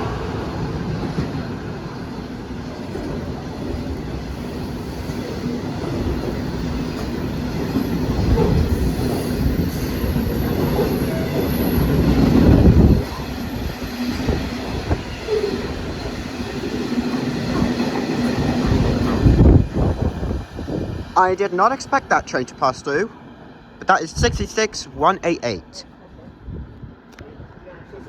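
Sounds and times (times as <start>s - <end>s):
wheels clacking on rails: 0.0s - 22.8s
freight train passing: 0.0s - 28.0s.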